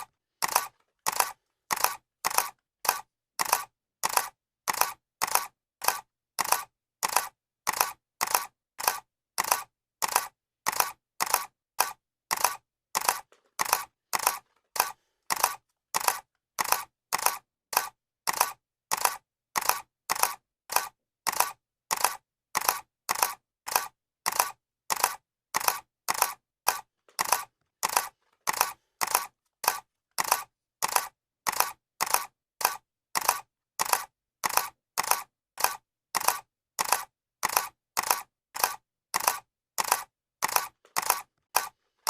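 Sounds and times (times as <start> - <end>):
camera shutter clicking: 0.0 - 41.8.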